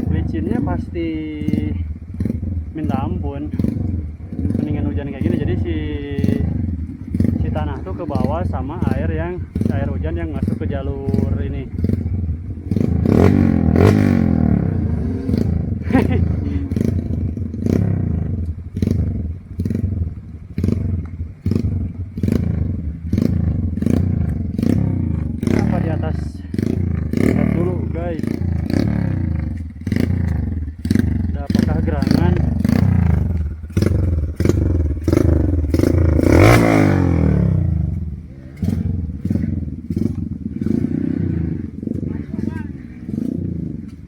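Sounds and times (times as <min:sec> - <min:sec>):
motorcycle engine pulling at low revs: 0:00.0 - 0:44.0.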